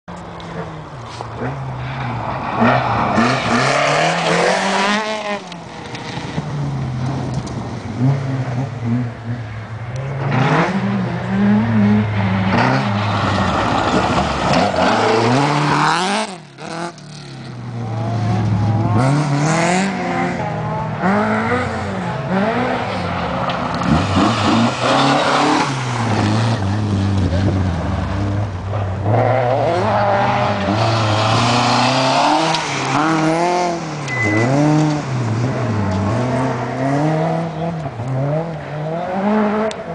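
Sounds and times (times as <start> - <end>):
rally cars passing at speed: 0.2 - 39.9.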